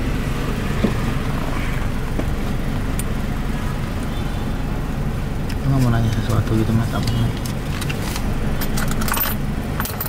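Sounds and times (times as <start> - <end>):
car engine idling: 0.0 - 10.0
faint street noise: 0.0 - 10.0.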